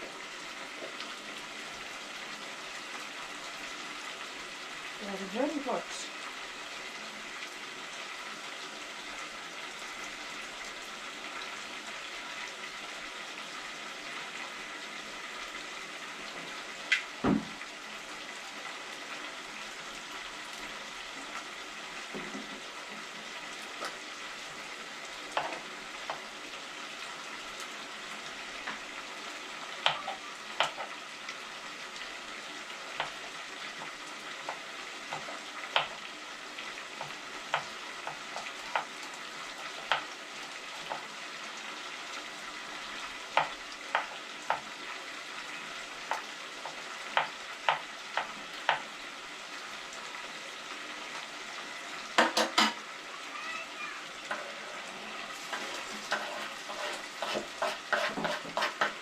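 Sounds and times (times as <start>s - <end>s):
food sizzling in a pot: 0.0s - 59.0s.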